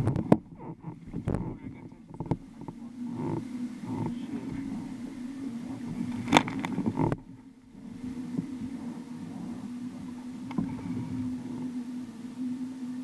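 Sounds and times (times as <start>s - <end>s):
low steady hum: 0.0s - 13.0s
water splashing against kayak: 0.0s - 13.0s.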